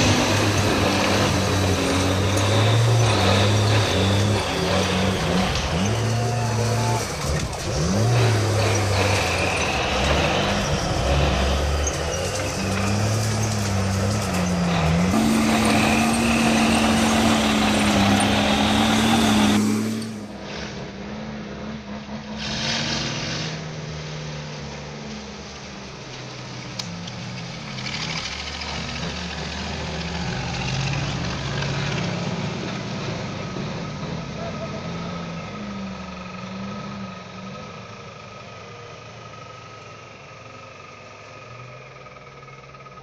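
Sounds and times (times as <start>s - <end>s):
diesel engines running: 0.0s - 43.0s
loud steady engine: 0.0s - 43.0s.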